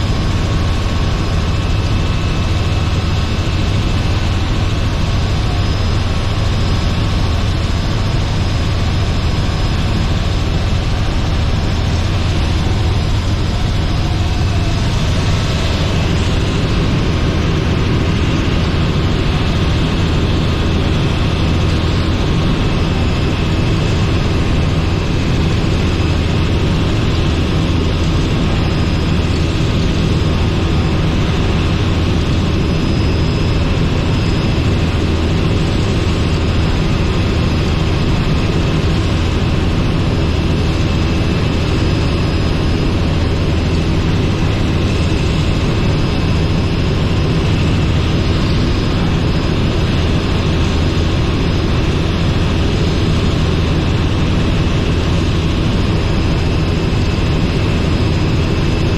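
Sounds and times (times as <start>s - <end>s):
helicopter engine and rotors drone: 0.0s - 58.9s.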